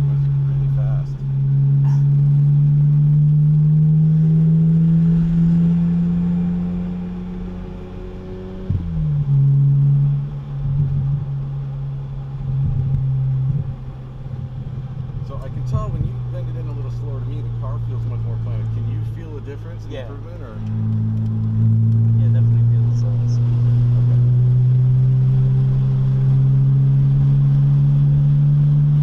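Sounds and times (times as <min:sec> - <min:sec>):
car engine under throttle: 0:00.0 - 0:29.0.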